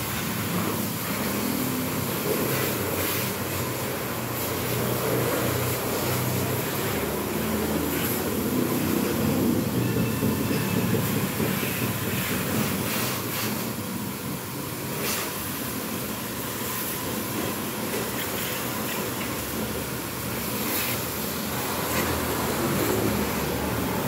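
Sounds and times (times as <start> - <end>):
pressure washer motor humming: 0.0 - 24.0
water jet hissing on car: 0.0 - 24.0.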